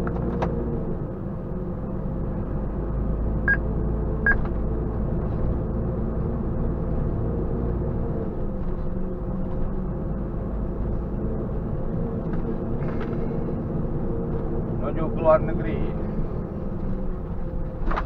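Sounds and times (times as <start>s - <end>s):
truck engine and road drone: 0.0s - 18.0s.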